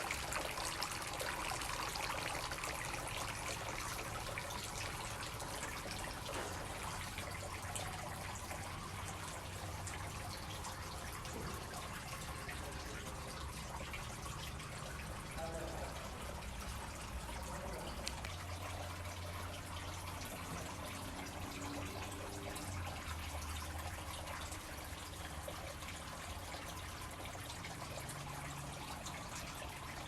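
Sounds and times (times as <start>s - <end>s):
fountain water trickling and splashing: 0.0s - 30.0s.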